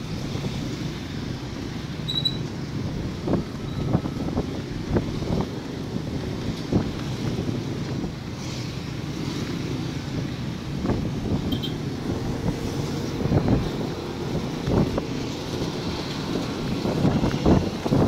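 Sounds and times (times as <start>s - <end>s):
road traffic: 0.0s - 18.0s
wind on microphone: 0.0s - 18.0s.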